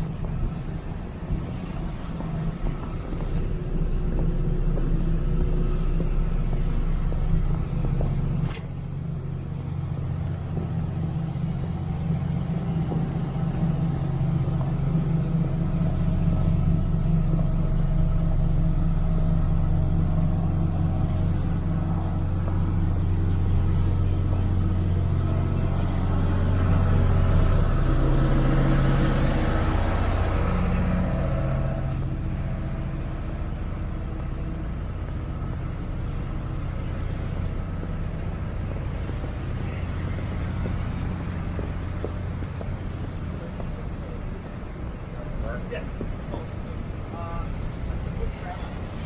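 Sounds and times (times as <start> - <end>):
large vehicle engine rumbling: 0.0 - 49.0
street traffic: 0.0 - 49.0.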